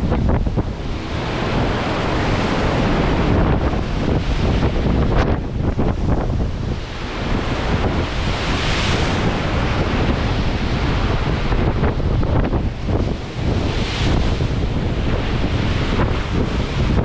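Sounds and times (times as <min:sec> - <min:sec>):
storm waves rushing: 0:00.0 - 0:17.0
wind buffeting microphone: 0:00.0 - 0:17.0.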